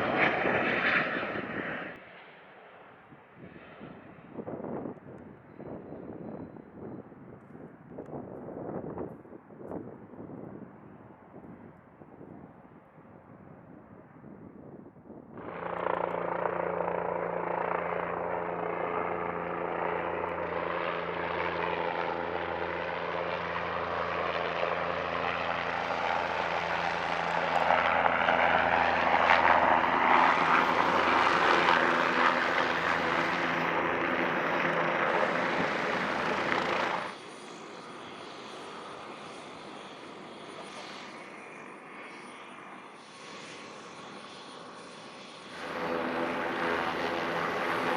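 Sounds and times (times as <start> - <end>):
helicopter rotor drone: 0.0 - 12.6, 13.3 - 47.9.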